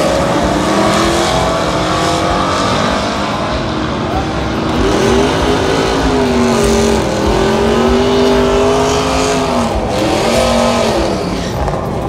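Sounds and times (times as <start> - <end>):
truck engine at full throttle: 0.0 - 12.0.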